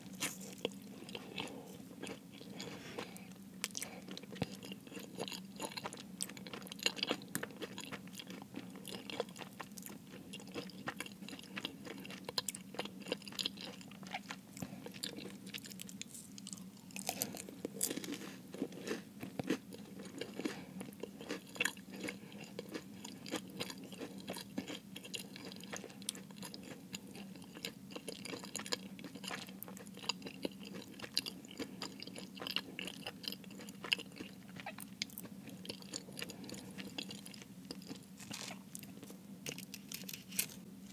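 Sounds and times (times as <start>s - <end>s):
crisp pastry chewing crackles: 0.0s - 40.9s.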